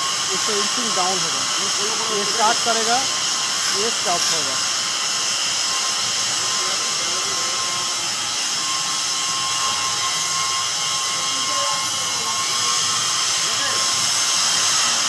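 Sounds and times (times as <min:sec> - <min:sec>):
welding machine hiss and whine: 0:00.0 - 0:15.0.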